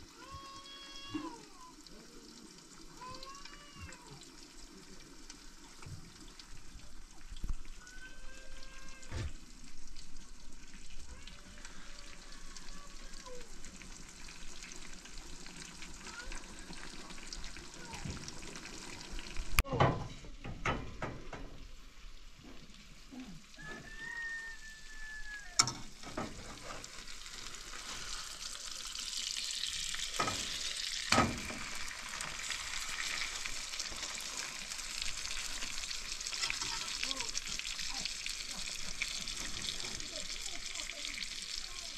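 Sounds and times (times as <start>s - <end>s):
fish sizzling in oil: 0.0s - 19.7s, 20.4s - 41.9s.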